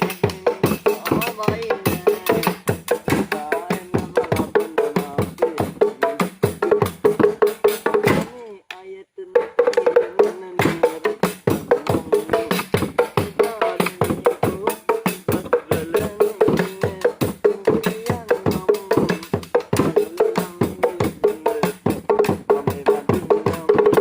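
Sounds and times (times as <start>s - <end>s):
wood-block-like percussion strikes: 0.0s - 8.4s, 9.3s - 24.0s.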